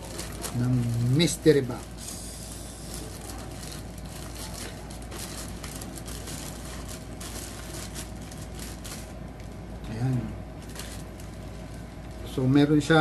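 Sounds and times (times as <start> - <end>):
packaging rustling and crinkling: 0.0 - 12.3
low steady hum: 0.0 - 13.0.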